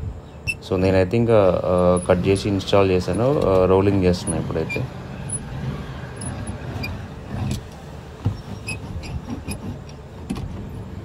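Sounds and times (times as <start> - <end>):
low rumble of handling noise: 0.0 - 11.0.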